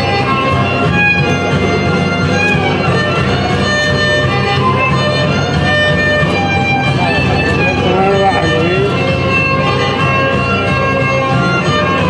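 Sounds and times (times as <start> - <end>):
violin-led dance music: 0.0 - 12.0.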